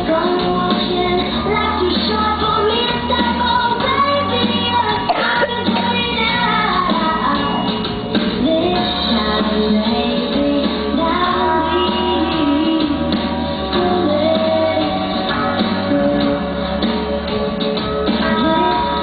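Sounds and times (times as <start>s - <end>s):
pop song with woman singing: 0.0s - 16.6s, 18.1s - 19.0s.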